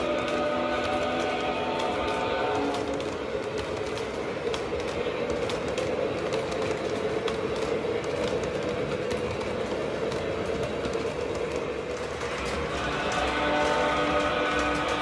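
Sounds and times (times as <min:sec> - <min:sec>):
model train wheels rumbling on rails: 0:00.0 - 0:15.0
wheels clicking over rail joints: 0:00.0 - 0:15.0.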